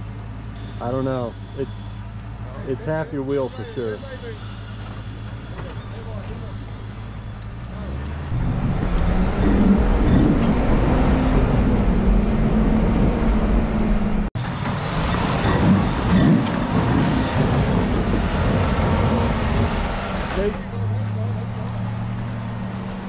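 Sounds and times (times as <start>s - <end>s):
engine working under load: 0.0s - 23.0s.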